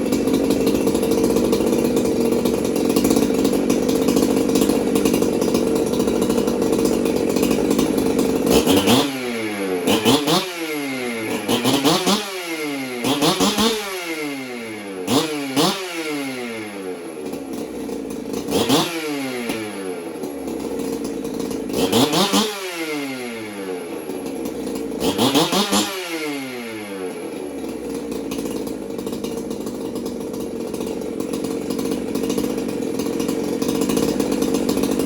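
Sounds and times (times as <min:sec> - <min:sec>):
chainsaw engine revving: 0:00.0 - 0:35.0.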